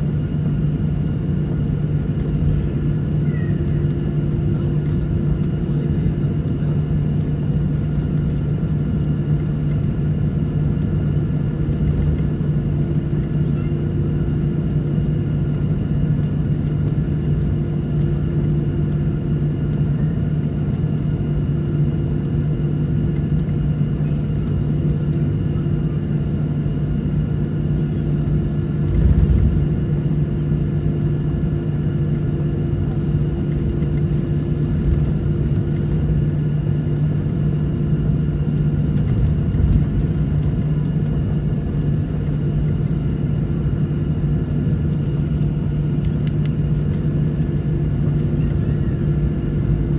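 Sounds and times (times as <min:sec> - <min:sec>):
airliner engine drone: 0:00.0 - 0:49.9.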